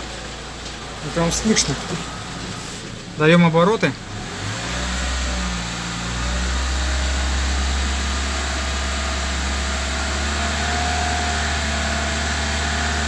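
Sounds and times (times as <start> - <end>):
car engine at raised revs: 0.0 - 13.0.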